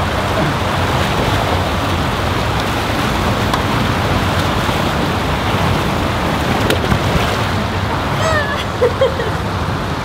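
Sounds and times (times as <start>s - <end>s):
water rushing over a weir: 0.0s - 10.0s.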